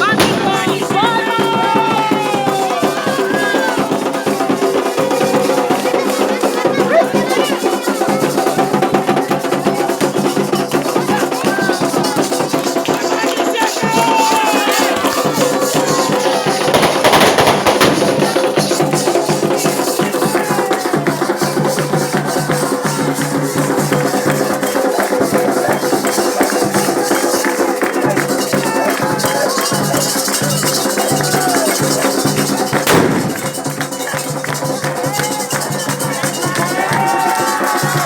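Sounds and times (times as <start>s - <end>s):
hand drums and shakers: 0.0s - 38.0s
voices singing: 0.0s - 38.0s.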